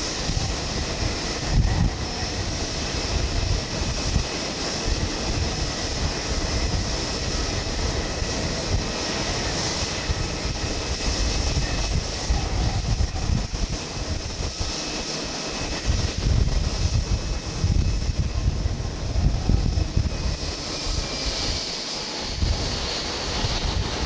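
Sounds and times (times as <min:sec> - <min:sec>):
jet engines running: 0:00.0 - 0:24.0
wind buffeting microphone: 0:00.0 - 0:24.0.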